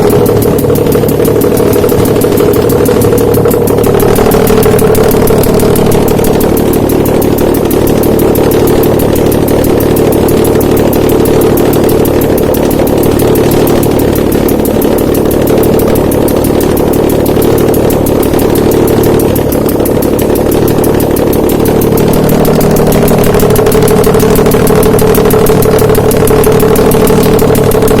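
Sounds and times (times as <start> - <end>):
car engine running steadily: 0.0 - 28.0.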